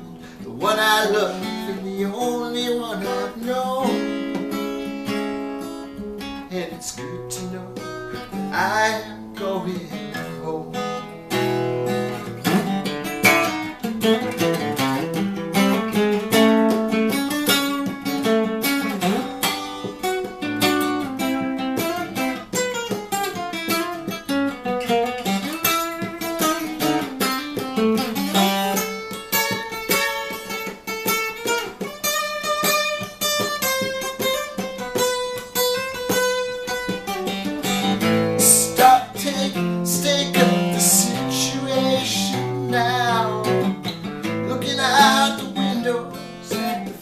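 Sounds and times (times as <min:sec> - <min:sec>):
picked guitar melody: 0:00.0 - 0:47.0.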